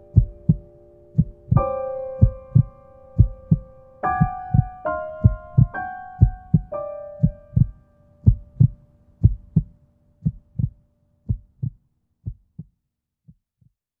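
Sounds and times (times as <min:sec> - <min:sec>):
heartbeat thumps: 0:00.1 - 0:12.7.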